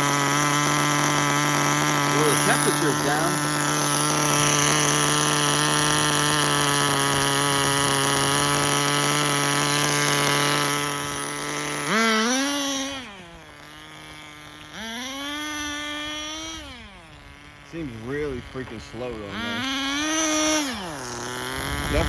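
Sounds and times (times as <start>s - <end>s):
small nitro engine revving: 0.0s - 22.0s.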